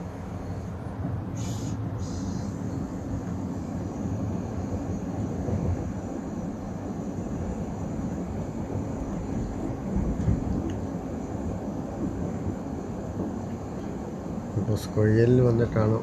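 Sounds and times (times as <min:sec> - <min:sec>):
train rumbling from inside: 0:00.0 - 0:16.0.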